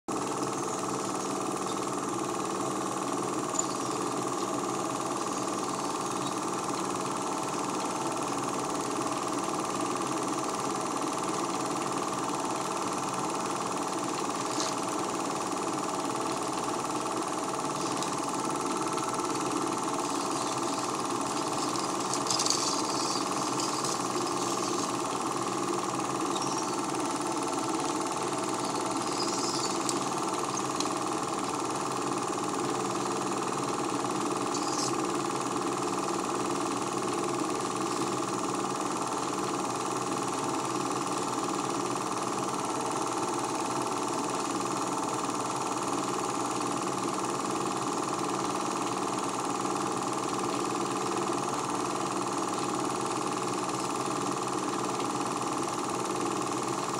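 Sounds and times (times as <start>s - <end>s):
film projector whirring: 0.1s - 56.9s.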